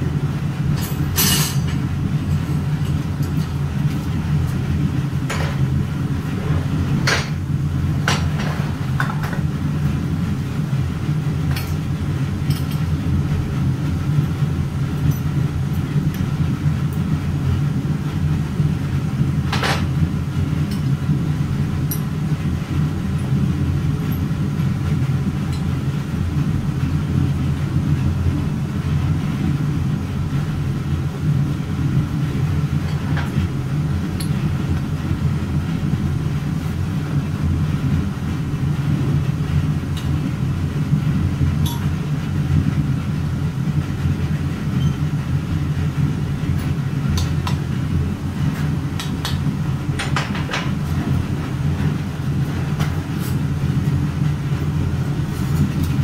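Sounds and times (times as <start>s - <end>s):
low machine rumble: 0.0s - 56.0s.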